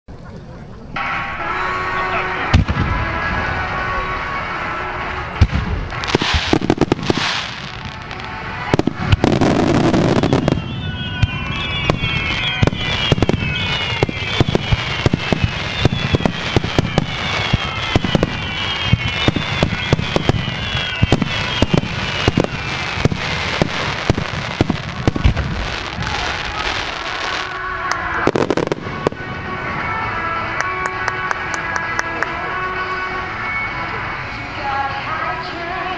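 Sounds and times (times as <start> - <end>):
falling firework whistles: 1.0 - 31.5
fireworks bangs: 1.0 - 35.8.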